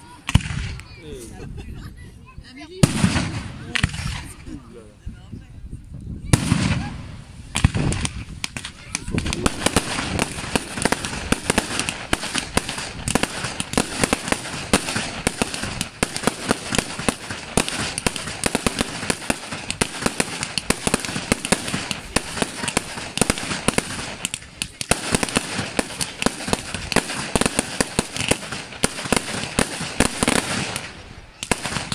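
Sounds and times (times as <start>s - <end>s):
rapid crackling firework pops: 0.2s - 1.0s, 2.8s - 4.3s, 6.3s - 31.9s.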